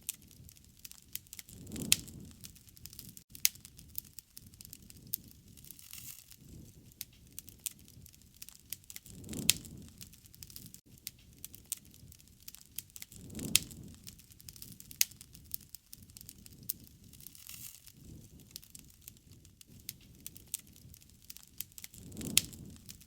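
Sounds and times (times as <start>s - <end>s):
sharp pops from fire: 0.0s - 23.0s
wood fire crackling: 0.0s - 23.0s.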